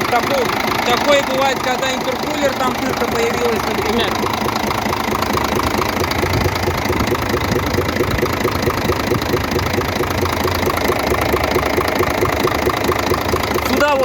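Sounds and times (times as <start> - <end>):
diesel engine idling: 0.0 - 14.0
rhythmic engine knock: 0.0 - 14.0.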